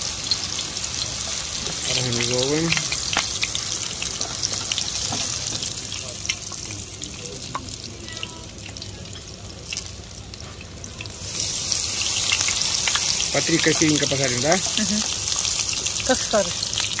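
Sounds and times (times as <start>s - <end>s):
fritter sizzling in hot oil: 0.0s - 17.0s.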